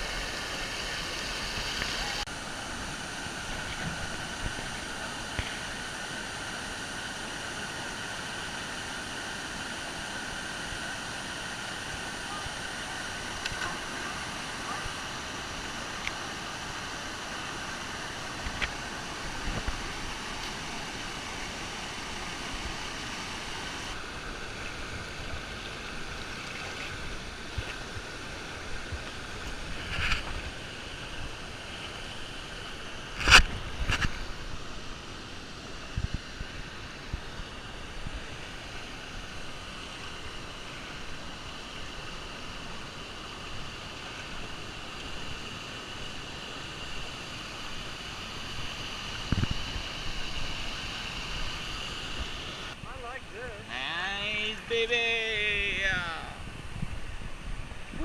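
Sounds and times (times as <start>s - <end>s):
waterfall and creek rushing: 0.0s - 58.0s.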